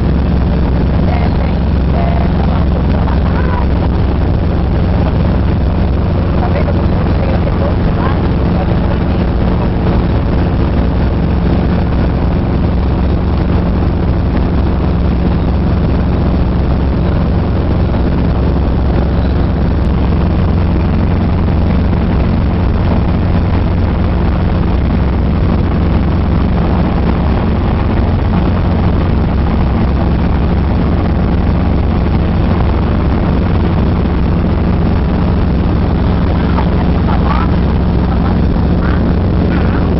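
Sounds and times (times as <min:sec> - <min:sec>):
helicopter engine and rotor drone: 0:00.0 - 0:39.9
wind rushing into cabin: 0:00.0 - 0:39.9.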